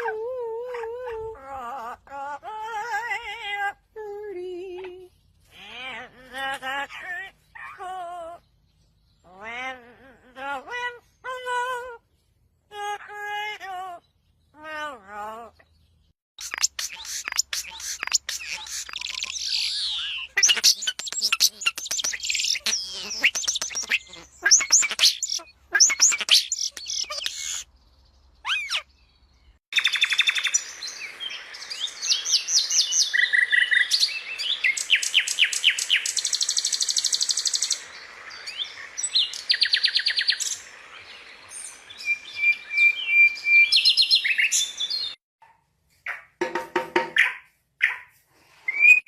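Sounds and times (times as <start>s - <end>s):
songbirds chirping and trilling: 4.6s - 45.2s.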